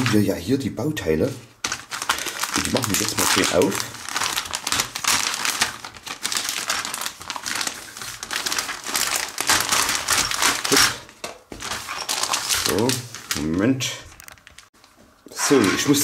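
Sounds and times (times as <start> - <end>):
plastic bag crinkling: 1.6 - 14.7.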